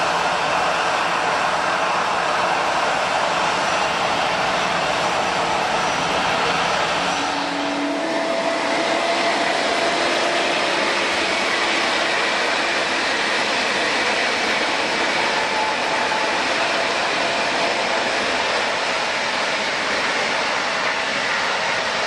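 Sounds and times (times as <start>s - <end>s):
jet engines roaring at low power: 0.0s - 22.0s.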